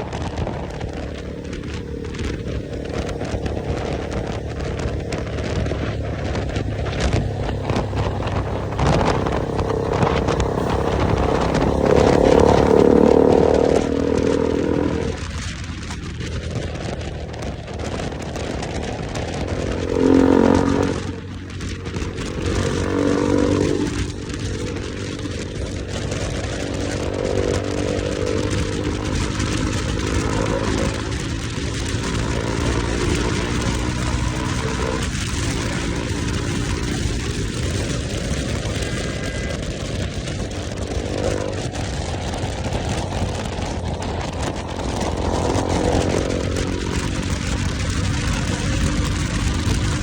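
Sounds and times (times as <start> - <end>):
motorcycle engine running: 0.0 - 50.0
steady rushing noise: 0.0 - 50.0.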